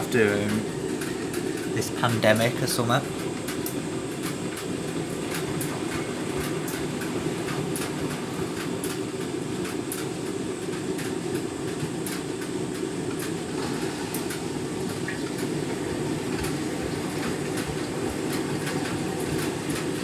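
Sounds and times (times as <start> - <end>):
washing machine humming: 0.0 - 20.0.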